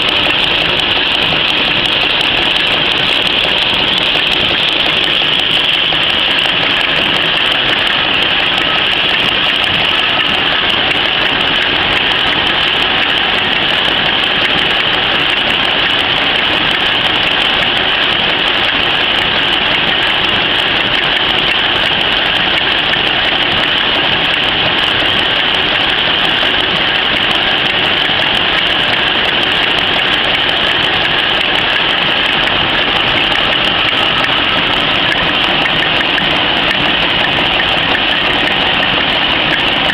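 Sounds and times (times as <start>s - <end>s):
napkin machine running: 0.0s - 39.9s.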